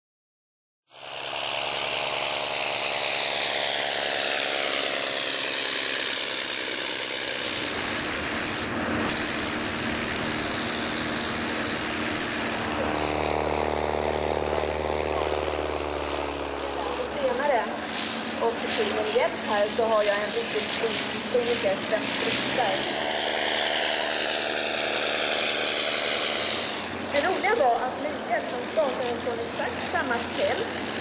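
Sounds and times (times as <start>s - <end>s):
propeller aircraft engines: 0.9s - 31.0s.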